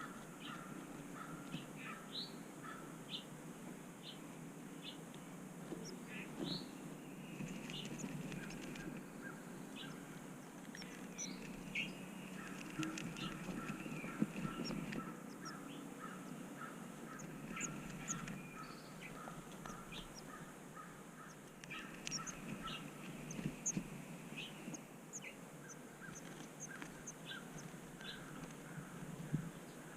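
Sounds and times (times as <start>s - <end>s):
birds chirping: 0.0s - 3.4s, 4.0s - 29.9s.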